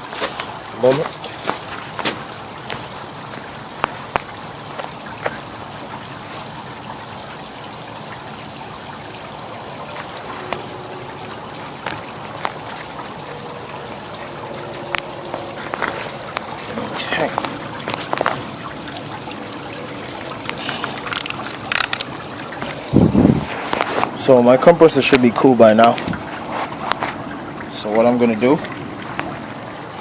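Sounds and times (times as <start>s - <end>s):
hose water running and trickling: 0.0s - 30.0s.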